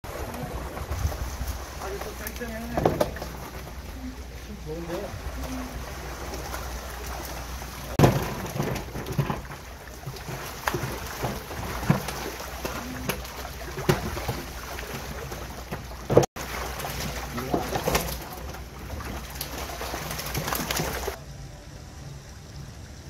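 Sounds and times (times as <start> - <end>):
fish splashing in water: 0.0 - 21.2.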